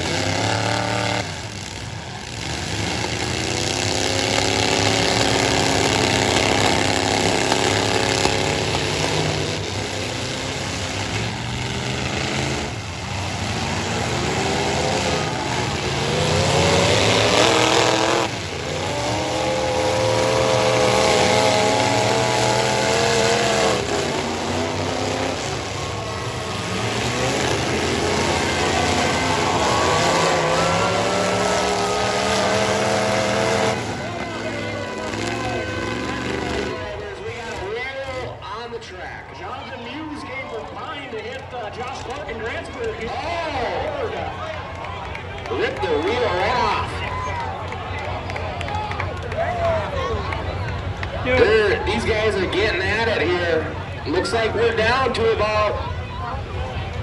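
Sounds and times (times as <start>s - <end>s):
truck engines revving: 0.0s - 57.0s.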